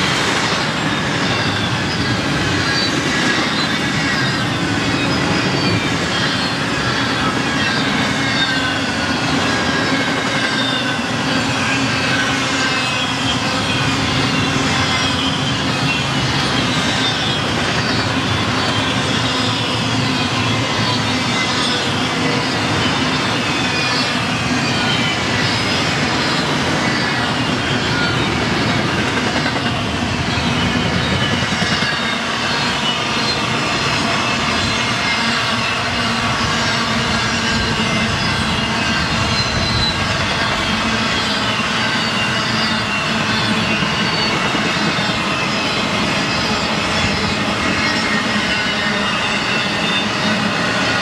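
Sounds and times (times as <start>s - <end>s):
freight train wheels rumbling: 0.0s - 51.0s
high wheel squeal: 0.0s - 51.0s.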